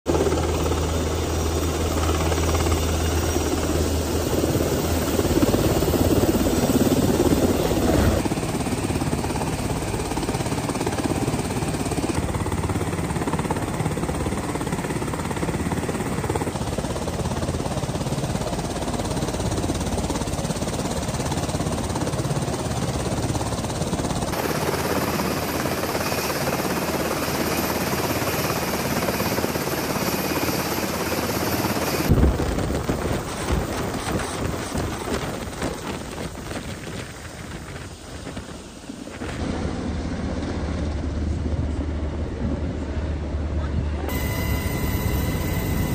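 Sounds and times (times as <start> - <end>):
helicopter rotor and turbine engines: 0.0 - 45.9.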